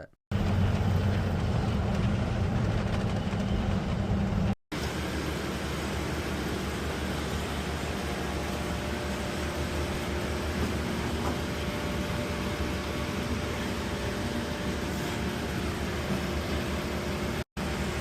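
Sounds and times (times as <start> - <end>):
machine hum with tones: 0.0 - 18.0
machine rumbling: 0.0 - 18.0.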